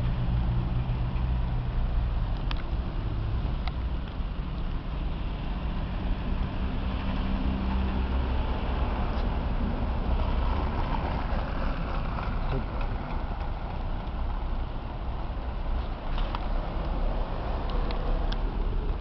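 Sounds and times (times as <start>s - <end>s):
low rumble of car engines: 0.0s - 19.0s.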